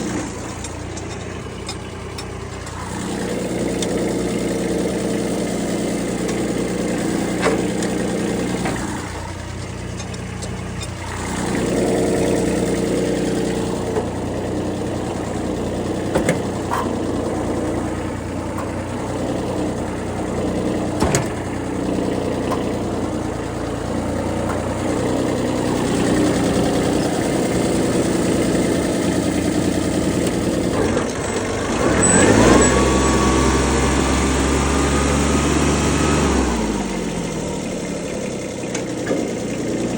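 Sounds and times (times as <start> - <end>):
sharp engine knocks: 0.0 - 35.0
tractor diesel engine running: 0.0 - 39.9.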